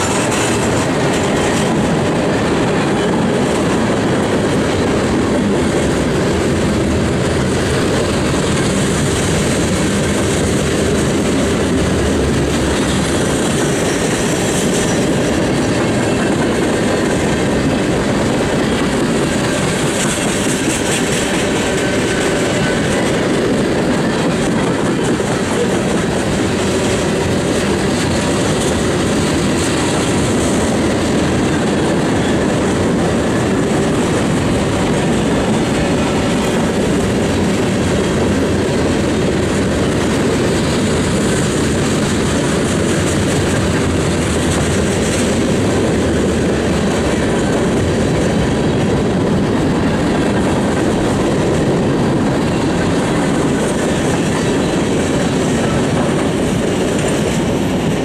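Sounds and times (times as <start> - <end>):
freight train rumbling and clattering: 0.0 - 58.0.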